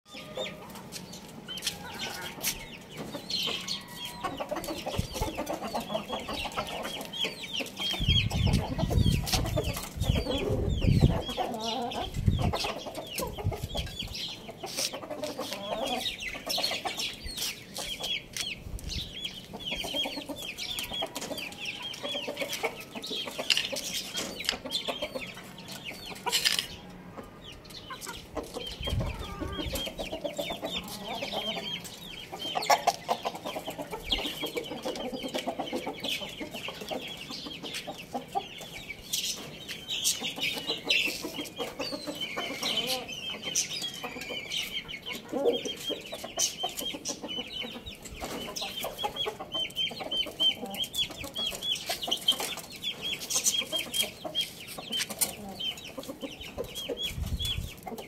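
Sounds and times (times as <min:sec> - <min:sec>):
chickens clucking: 0:00.1 - 0:58.0.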